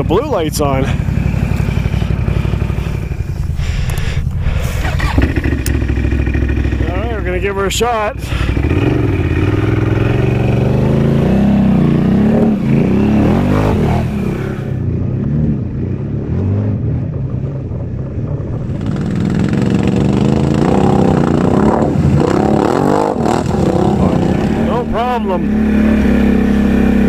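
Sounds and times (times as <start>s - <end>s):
quad bike engine revving: 0.0s - 27.0s.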